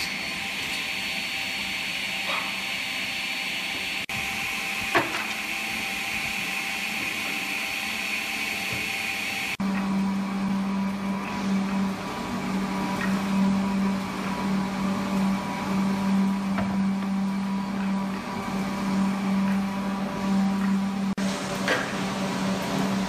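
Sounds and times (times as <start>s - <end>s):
surfacing machine humming: 0.0s - 23.0s
table saw running: 0.0s - 23.0s.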